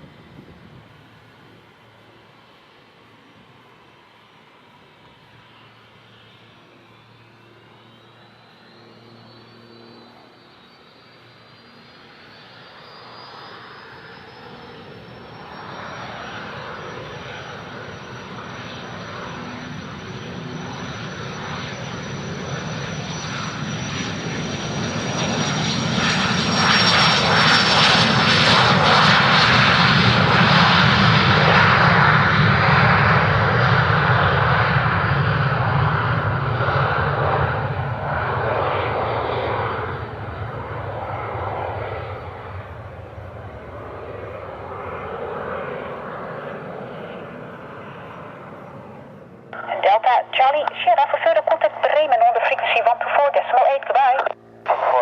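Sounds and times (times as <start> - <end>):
jet taking off: 0.0 - 55.0.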